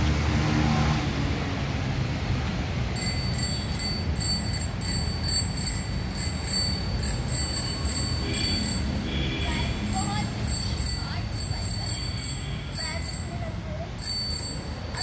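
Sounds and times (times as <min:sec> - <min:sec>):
bicycle bell ringing: 0:02.9 - 0:15.0.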